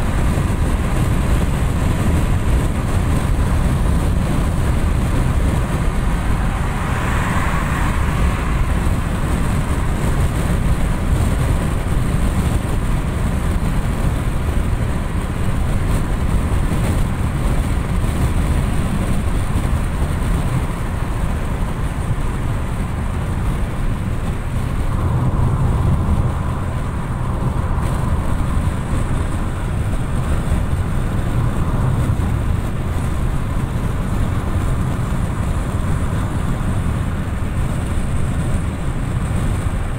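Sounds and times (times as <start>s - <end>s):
car road and wind noise: 0.0s - 39.9s.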